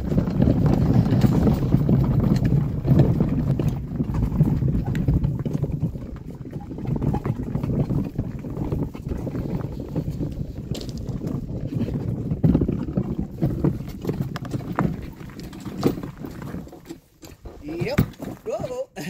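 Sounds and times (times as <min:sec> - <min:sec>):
wagon wheels rolling on gravel: 0:00.0 - 0:19.0.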